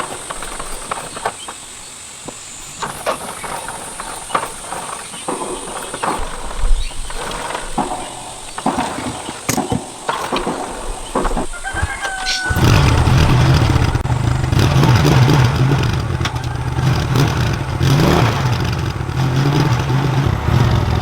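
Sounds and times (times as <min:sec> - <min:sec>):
hand tools clinking on metal: 0:00.0 - 0:18.6
steady high hiss: 0:00.0 - 0:19.9.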